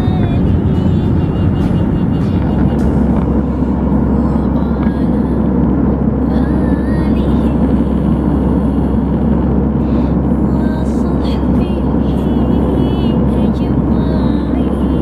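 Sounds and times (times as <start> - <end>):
airliner cabin noise: 0.0 - 15.0.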